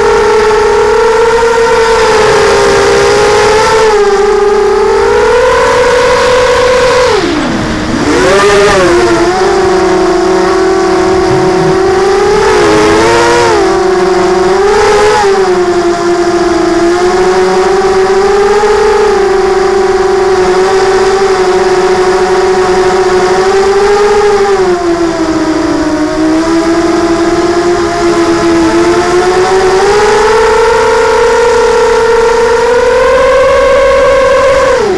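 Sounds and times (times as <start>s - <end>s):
drone motors whining: 0.0s - 34.9s.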